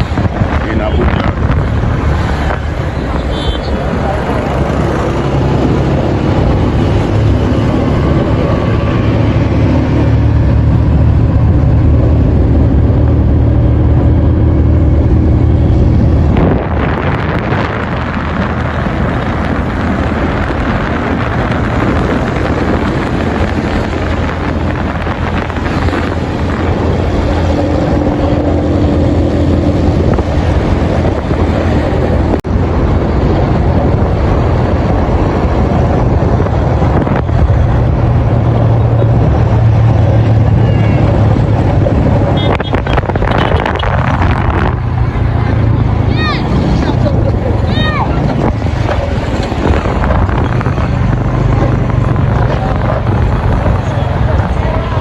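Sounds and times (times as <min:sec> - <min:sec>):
car engine and road noise: 0:00.0 - 0:55.0
wind on microphone: 0:00.0 - 0:55.0.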